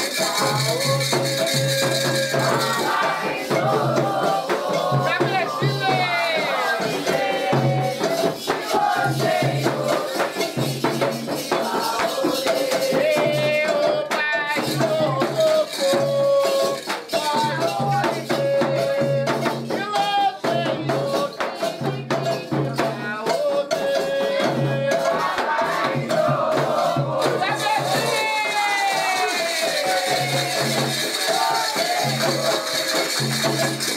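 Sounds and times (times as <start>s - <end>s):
hand drumming: 0.0s - 23.2s, 24.3s - 33.9s
shaken percussion: 0.0s - 33.9s
voices singing a chant: 0.0s - 33.9s.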